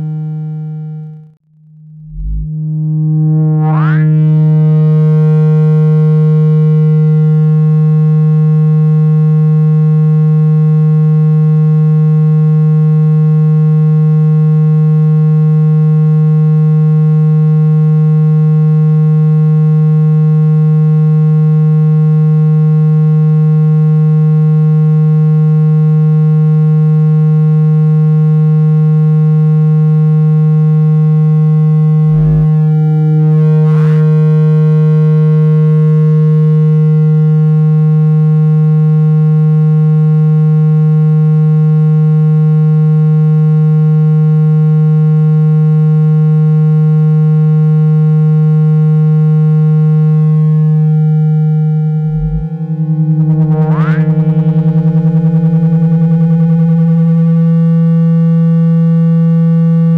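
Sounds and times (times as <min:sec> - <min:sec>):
low buzzing tone from phone speaker: 0:00.0 - 0:59.9.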